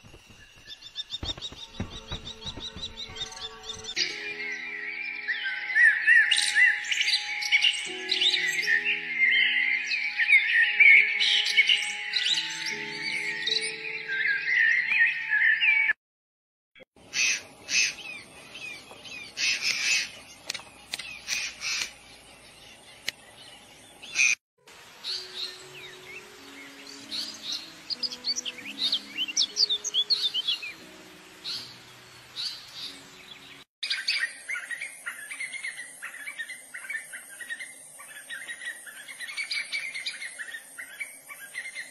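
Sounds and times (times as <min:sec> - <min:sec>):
small birds chirping: 0:00.0 - 0:15.7, 0:17.0 - 0:24.4, 0:25.0 - 0:41.9.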